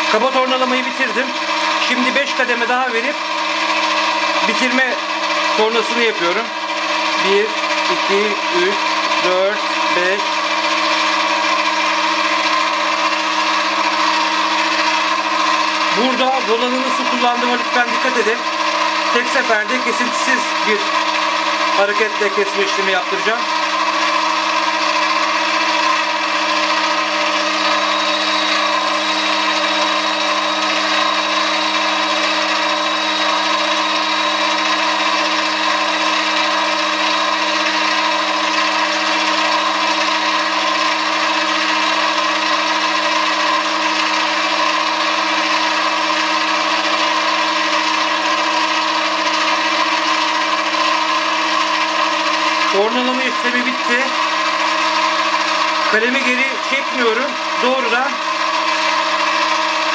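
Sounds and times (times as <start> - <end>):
lathe tool cutting metal: 0.0 - 59.9
lathe whining: 0.0 - 59.9.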